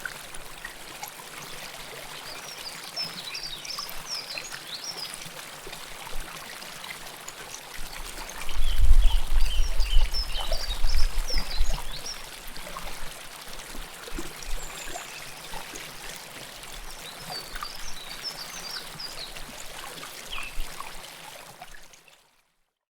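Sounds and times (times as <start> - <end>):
river water flowing and trickling: 0.0 - 22.7.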